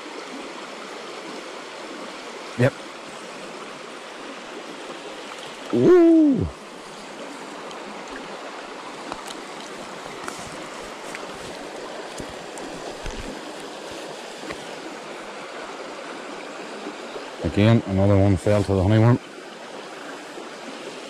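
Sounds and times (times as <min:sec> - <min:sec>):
river flowing over a riffle: 0:00.0 - 0:21.0.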